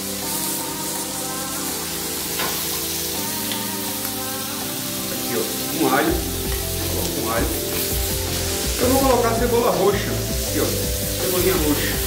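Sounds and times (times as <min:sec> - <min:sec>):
background music: 0:00.0 - 0:12.0
steaks sizzling in a frying pan: 0:00.0 - 0:12.0.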